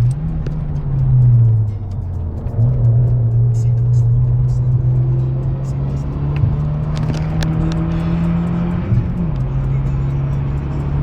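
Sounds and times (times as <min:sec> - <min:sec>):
car engine running: 0:00.0 - 0:11.0
sharp ticks: 0:00.0 - 0:11.0.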